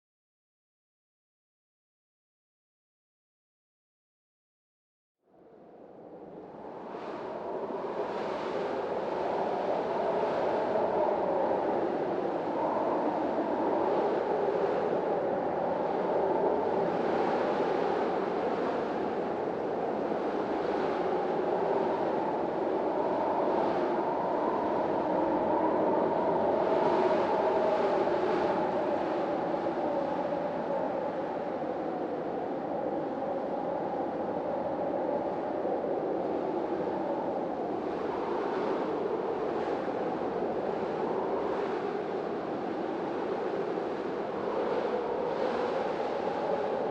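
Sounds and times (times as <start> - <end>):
storm wind howling: 5.3 - 46.9.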